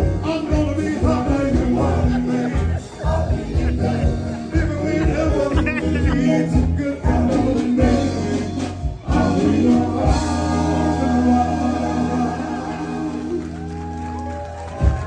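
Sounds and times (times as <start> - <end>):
steady bass: 0.0 - 15.0
choir-like singing: 0.2 - 13.8.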